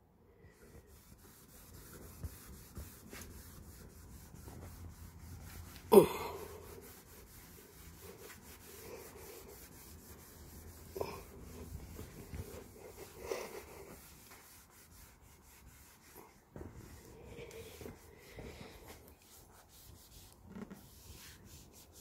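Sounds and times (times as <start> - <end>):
cloth rubbing on plastic: 0.5 - 22.0.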